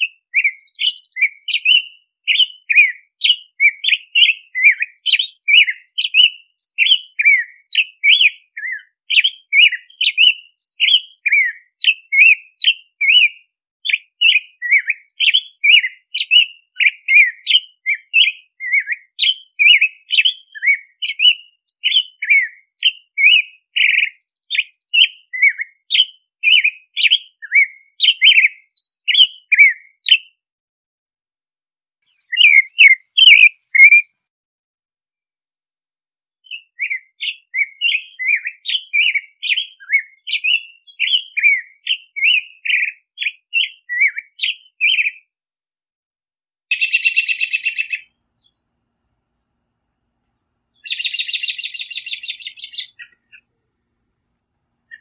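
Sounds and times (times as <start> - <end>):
robin singing: 0.0 - 30.4, 32.0 - 34.2, 36.4 - 45.3, 46.7 - 48.7, 49.4 - 55.0.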